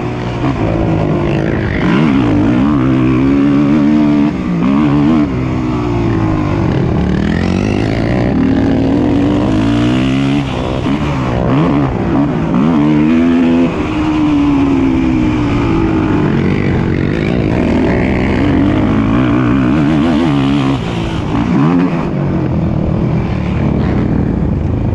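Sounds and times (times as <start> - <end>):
racing atv engines revving: 0.0 - 24.9.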